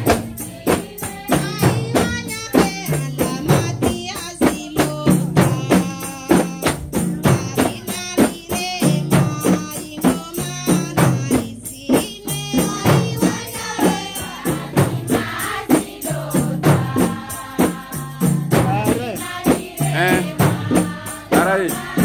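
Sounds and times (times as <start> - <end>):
frame drums beating: 0.0 - 22.0
women singing together: 0.0 - 22.0.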